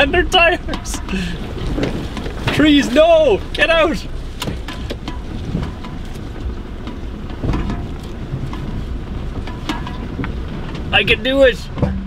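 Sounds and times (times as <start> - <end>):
engine and tyre rumble: 0.0 - 12.0
stones and brush hitting truck: 0.0 - 12.0.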